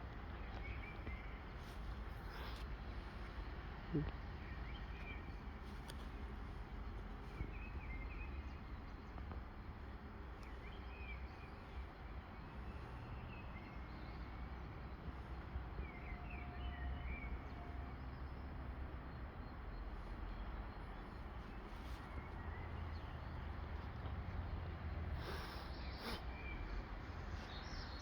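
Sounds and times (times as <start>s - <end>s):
low background rumble: 0.0s - 28.0s
small birds chirping: 0.0s - 28.0s.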